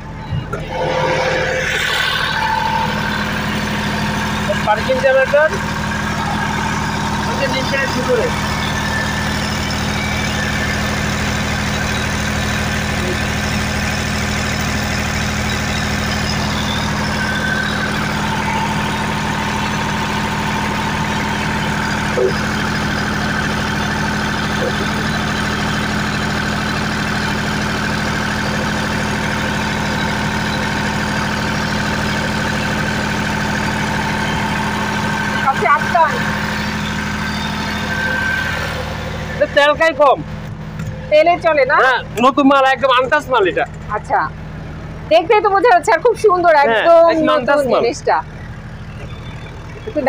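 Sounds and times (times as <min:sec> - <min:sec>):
diesel generator humming: 0:00.0 - 0:50.0.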